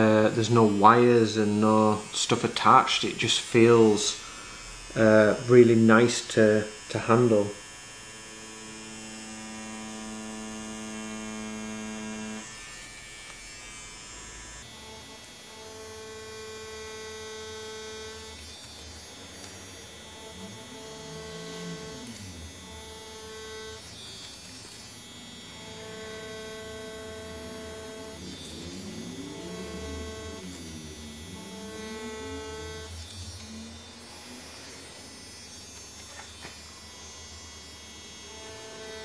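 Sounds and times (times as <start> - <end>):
tattoo machine humming: 0.0 - 39.0.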